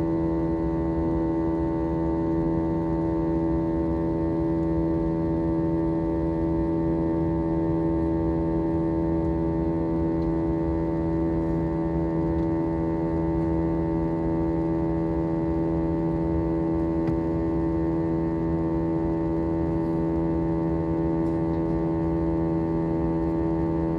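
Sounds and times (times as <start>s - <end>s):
aircraft engine drone: 0.0s - 23.9s.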